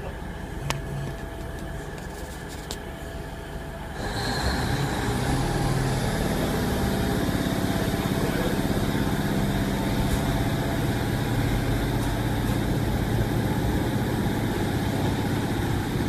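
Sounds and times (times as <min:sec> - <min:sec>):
diesel train engine: 0:00.0 - 0:16.0.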